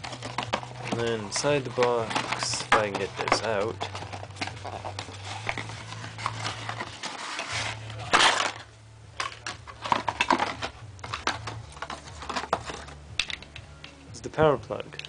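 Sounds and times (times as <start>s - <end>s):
packaging rustling: 0.0s - 13.0s
steady low hum: 0.0s - 15.0s.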